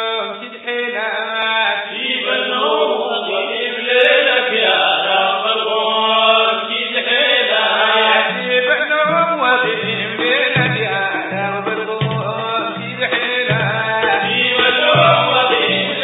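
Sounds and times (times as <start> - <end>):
men chanting in unison: 0.0 - 16.0.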